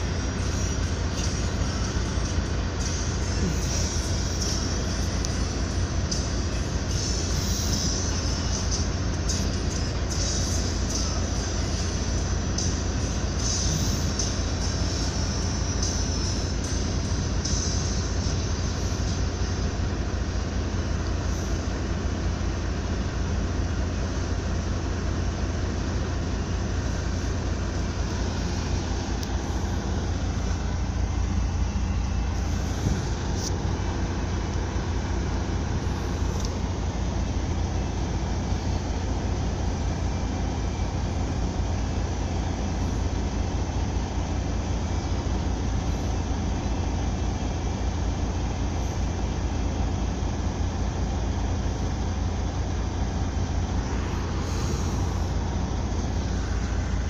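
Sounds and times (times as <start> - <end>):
ship engine drone: 0.0 - 57.0.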